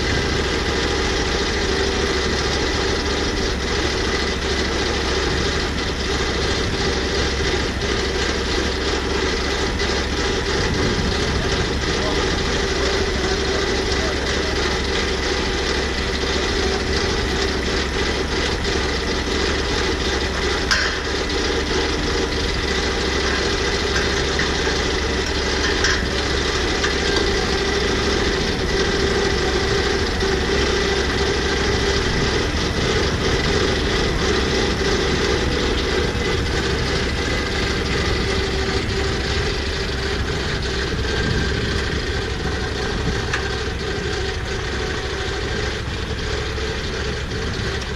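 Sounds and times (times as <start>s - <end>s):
petrol engine running: 0.0s - 47.9s.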